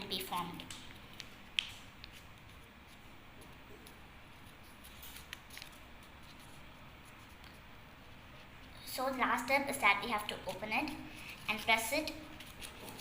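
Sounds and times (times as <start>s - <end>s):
paper being folded by hand: 0.0s - 13.0s.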